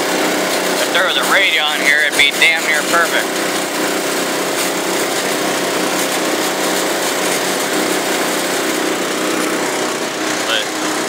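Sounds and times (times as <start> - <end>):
small pump engine running: 0.0 - 11.0
utility vehicle diesel engine: 0.0 - 11.0.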